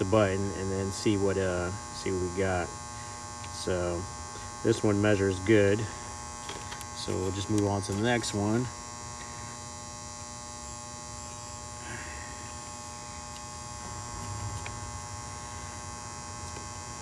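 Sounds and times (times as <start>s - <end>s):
electrical hum with tones: 0.0s - 17.0s.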